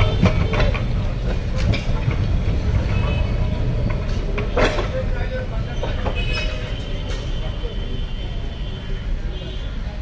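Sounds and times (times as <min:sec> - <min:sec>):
tram rumbling: 0:00.0 - 0:10.0.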